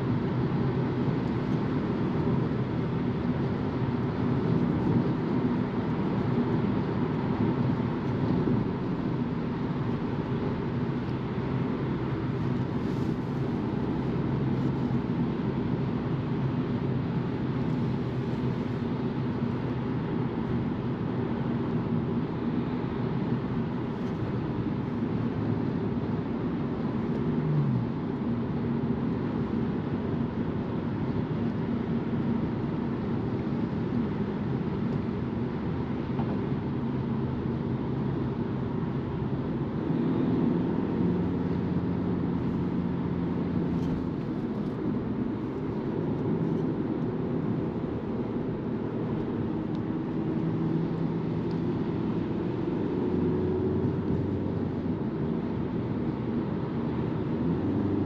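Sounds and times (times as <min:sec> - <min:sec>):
diesel engine hum: 0:00.0 - 0:58.0.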